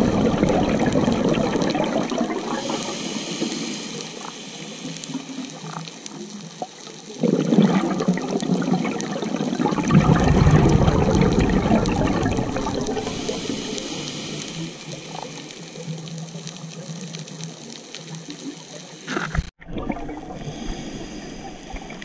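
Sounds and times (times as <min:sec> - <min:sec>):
underwater bubbling rush: 0:00.0 - 0:22.0
faint crackling clicks: 0:00.4 - 0:19.5.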